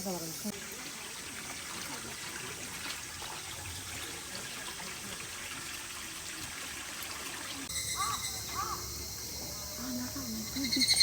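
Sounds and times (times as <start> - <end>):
flowing trickling water: 0.0 - 11.0.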